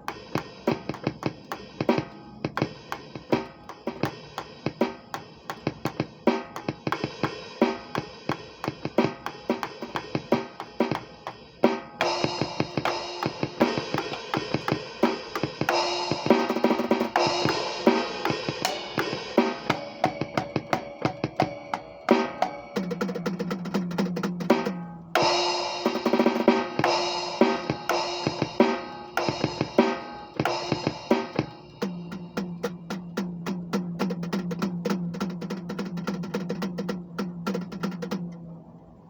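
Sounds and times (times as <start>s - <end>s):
drum kit playing: 0.0s - 38.4s.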